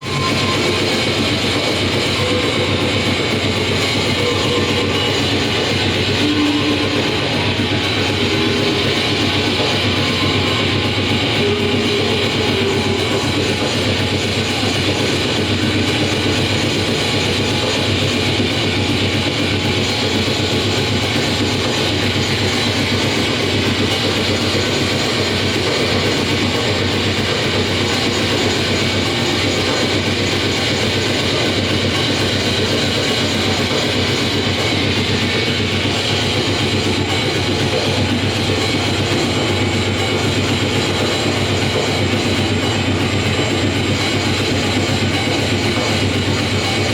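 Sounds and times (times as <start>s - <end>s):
harsh noise music: 0.0s - 46.9s.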